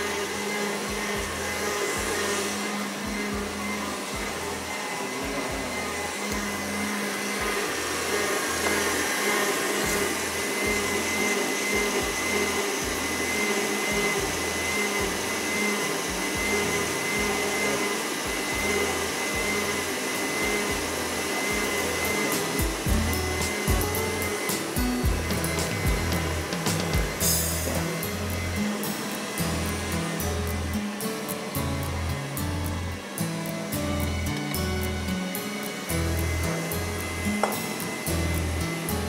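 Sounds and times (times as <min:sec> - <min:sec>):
stand mixer whipping cream: 0:00.0 - 0:39.0.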